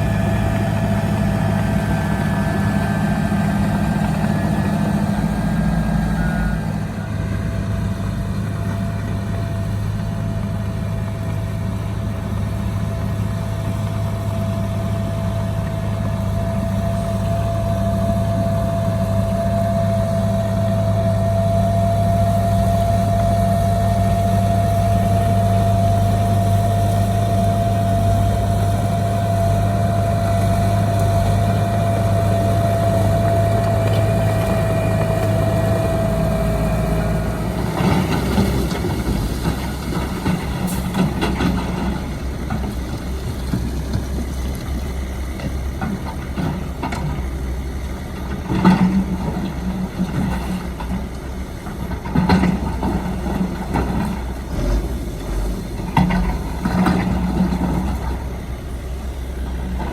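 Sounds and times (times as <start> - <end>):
engine knocks: 0.0 - 59.9
heavy diesel engine running: 0.0 - 59.9.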